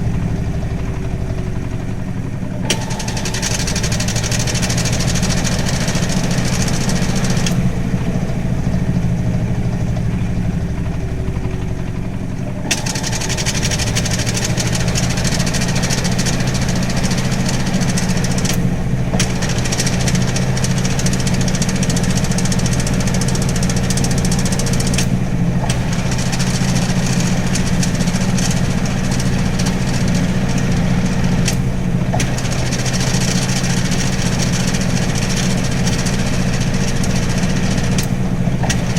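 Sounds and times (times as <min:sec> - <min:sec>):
washing machine motor humming: 0:00.0 - 0:38.9.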